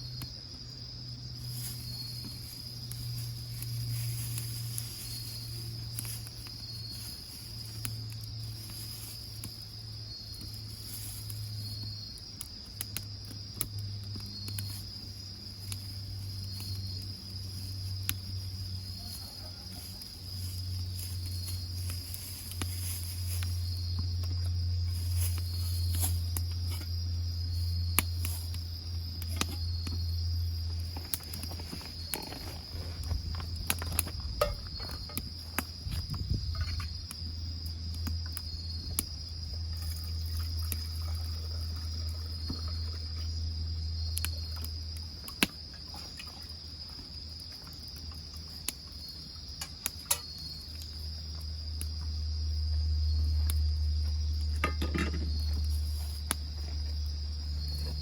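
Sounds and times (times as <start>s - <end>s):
wood fire crackling: 0.0s - 54.8s, 55.4s - 58.0s
insects trilling: 0.0s - 58.0s.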